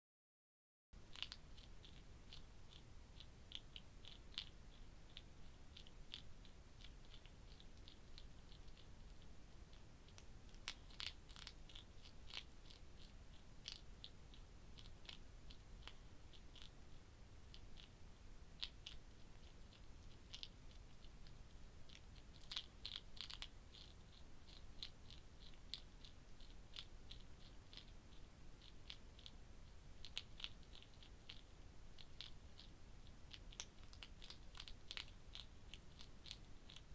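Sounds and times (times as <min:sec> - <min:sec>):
hedgehog chewing clicks: 0:01.0 - 0:36.9.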